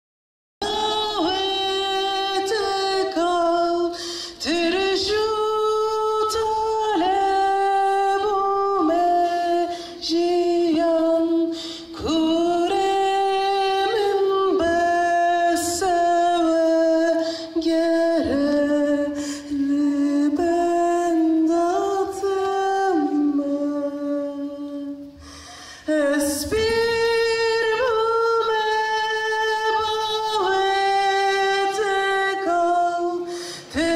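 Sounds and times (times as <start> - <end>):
person singing unaccompanied: 0.6 - 33.9.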